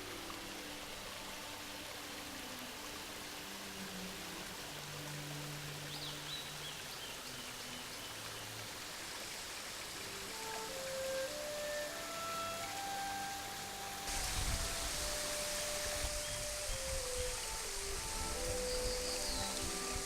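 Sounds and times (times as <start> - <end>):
soft low background music: 0.0 - 20.0
waterfall rushing: 0.0 - 20.0.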